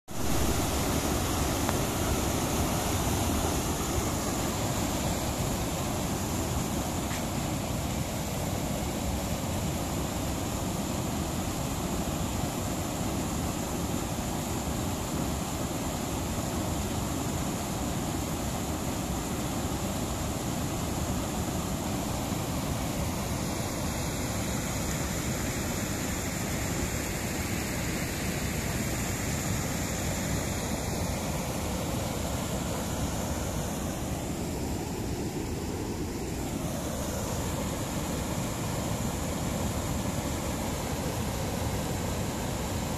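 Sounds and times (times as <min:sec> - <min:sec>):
floodwater rushing down spillway: 0:00.1 - 0:42.9.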